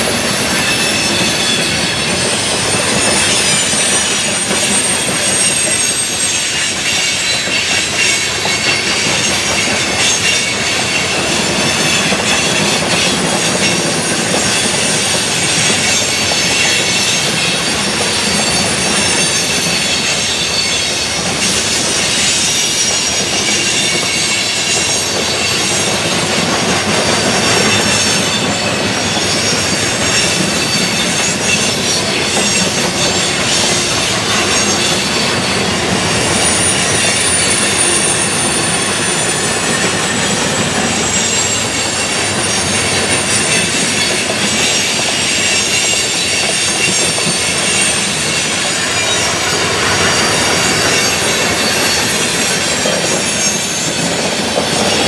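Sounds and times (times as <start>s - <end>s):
freight train wheels rumbling: 0.0s - 55.0s
high-pitched wheel squeal: 0.0s - 55.0s.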